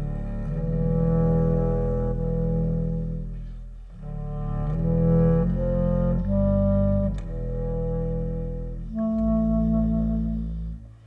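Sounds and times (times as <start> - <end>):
clarinets and cello playing chords: 0.0 - 11.0.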